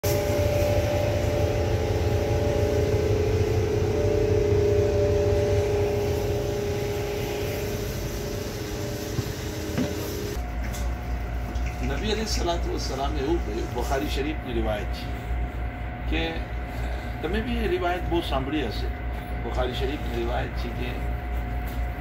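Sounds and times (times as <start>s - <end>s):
boat engines droning: 0.0s - 22.0s.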